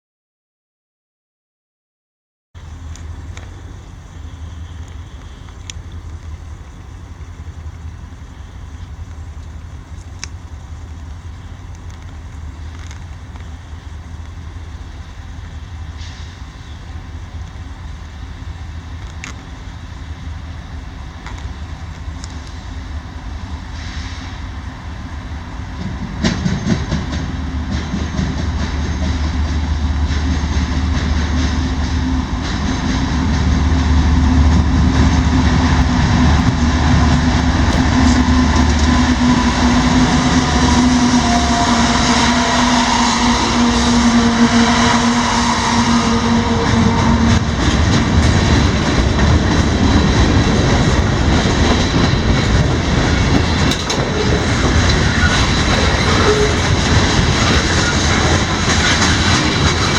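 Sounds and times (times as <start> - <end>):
diesel locomotive engine roar: 2.6 - 59.9.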